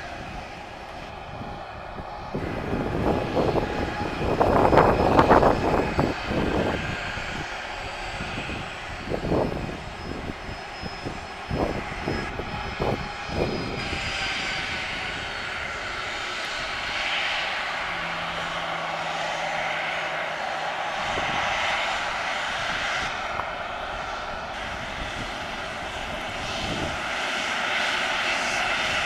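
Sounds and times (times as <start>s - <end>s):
jet engines rumbling: 0.0s - 29.0s
jet engines spooling up hiss: 0.0s - 29.0s.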